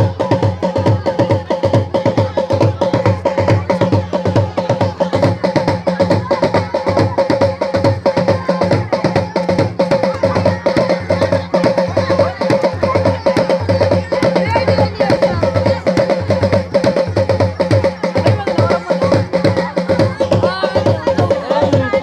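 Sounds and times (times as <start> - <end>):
drum-driven dance music: 0.0 - 22.0.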